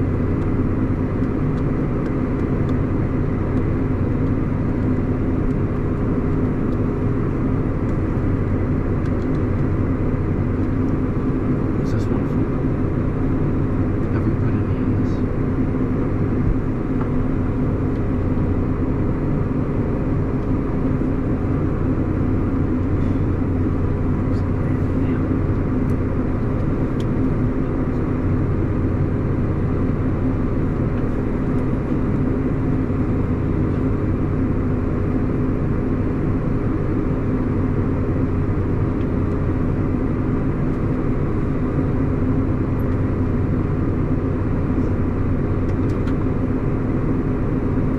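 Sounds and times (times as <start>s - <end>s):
auger machine hum: 0.0s - 47.9s
diesel engine running: 0.0s - 47.9s.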